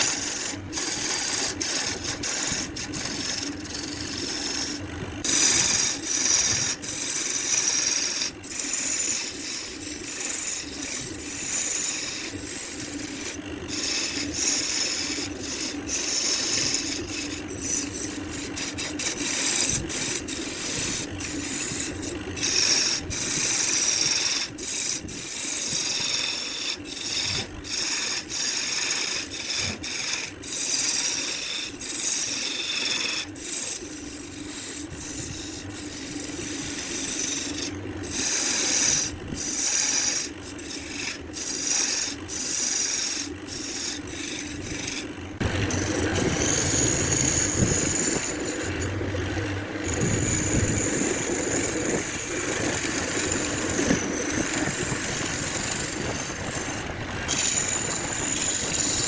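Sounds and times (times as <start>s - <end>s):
lathe motor hum: 0.0s - 59.0s
tool scraping spinning wood: 0.0s - 59.0s.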